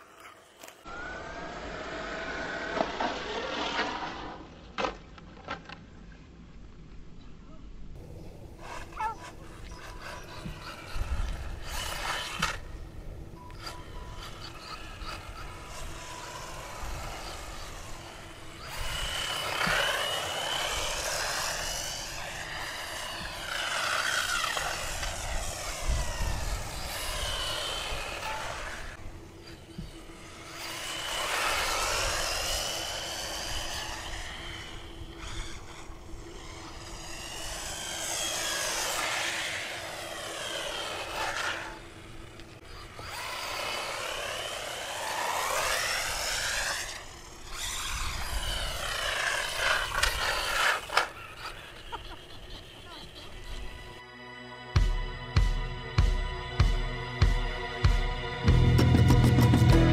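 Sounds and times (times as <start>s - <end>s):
toy car electric motor whining: 0.0s - 4.4s, 8.5s - 54.0s.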